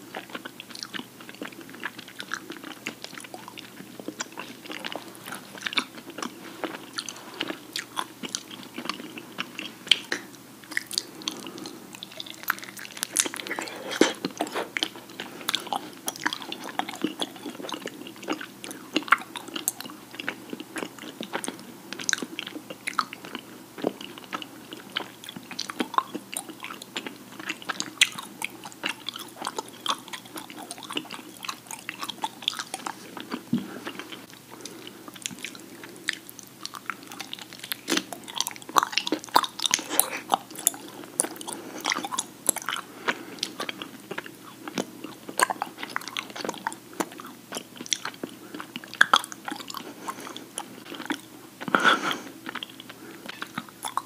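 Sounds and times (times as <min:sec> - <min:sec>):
people chewing honeycomb: 0:00.0 - 0:54.0.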